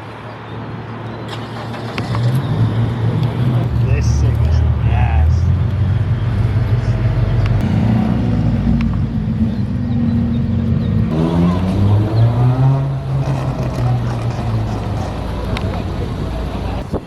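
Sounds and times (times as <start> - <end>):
car engine idling and revving: 1.0 - 17.0.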